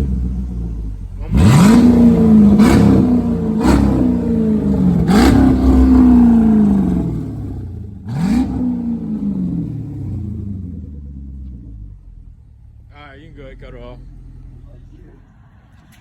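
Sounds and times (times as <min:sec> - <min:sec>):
loud car engine revving: 0:00.0 - 0:16.0.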